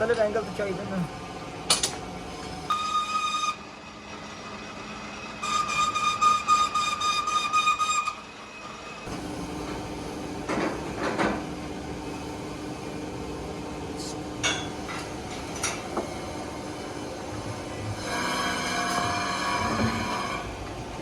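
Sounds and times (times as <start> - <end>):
steady workshop hum: 0.0 - 21.0.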